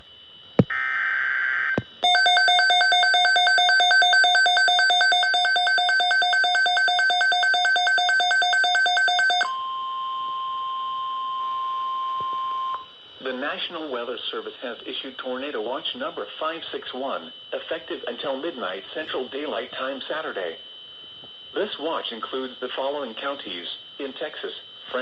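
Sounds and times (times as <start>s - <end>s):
steady warning tone: 0.0s - 25.0s
rapid pulsing alarm beeps: 0.1s - 13.5s, 15.4s - 25.0s.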